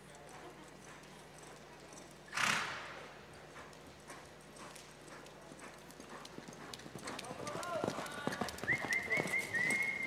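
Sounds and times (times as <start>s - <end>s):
faint hoofbeats on dirt: 0.0s - 10.0s.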